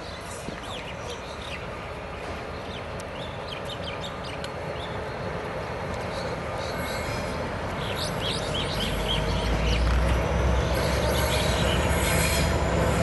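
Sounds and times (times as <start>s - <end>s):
locomotive engine rumble: 0.2s - 13.0s.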